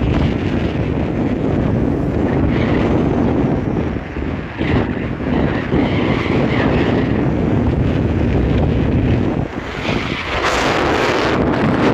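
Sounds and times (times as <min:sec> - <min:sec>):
moving vehicle rumble: 0:00.0 - 0:11.9
wind buffeting microphone: 0:00.0 - 0:11.9.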